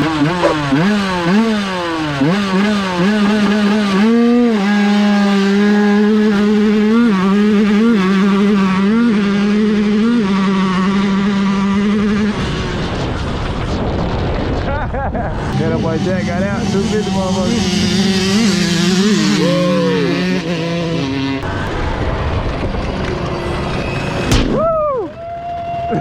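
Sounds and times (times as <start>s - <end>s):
dirt bike engine accelerating: 0.0s - 26.0s.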